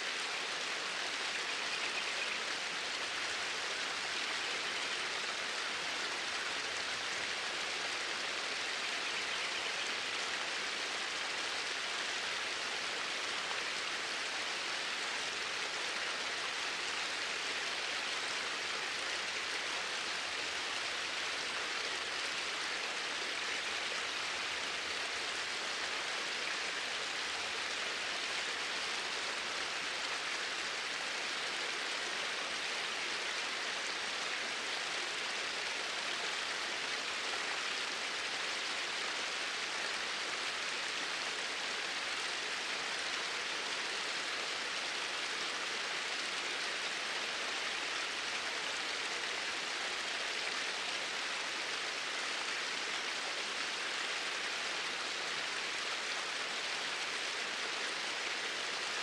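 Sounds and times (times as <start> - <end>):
water flowing in a stream: 0.0 - 59.0.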